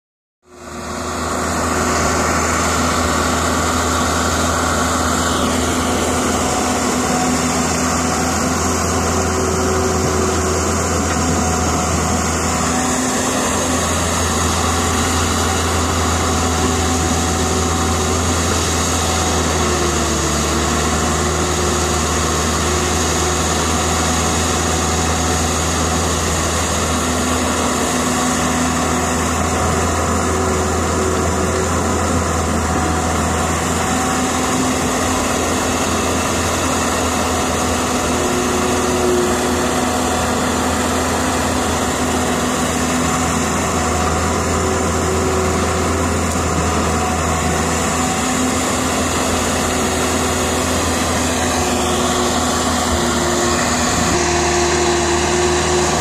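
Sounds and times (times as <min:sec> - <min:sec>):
excavator diesel engine running: 0:00.4 - 0:56.0.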